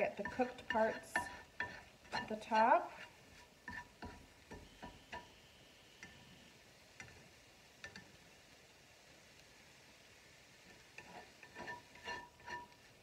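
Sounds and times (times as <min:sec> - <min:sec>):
spatula tapping and scraping a pan: 0:00.0 - 0:08.2, 0:10.6 - 0:13.0.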